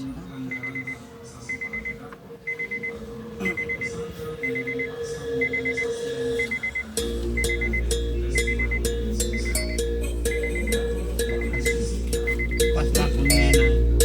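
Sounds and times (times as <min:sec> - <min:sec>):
electronic alarm beeping: 0:00.5 - 0:14.0
steady hum: 0:01.6 - 0:14.0.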